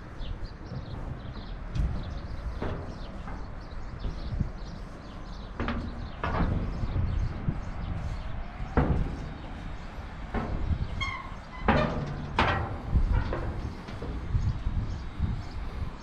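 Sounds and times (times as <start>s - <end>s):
footsteps on steel deck plates: 0.0s - 16.0s.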